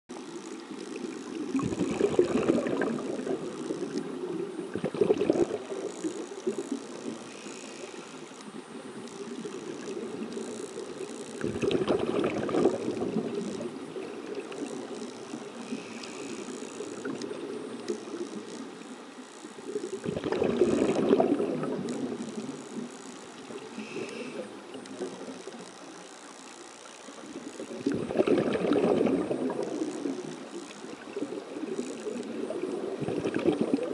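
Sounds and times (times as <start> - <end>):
underwater exhaust bubbles: 0.1 - 33.9
underwater water noise: 0.1 - 33.9.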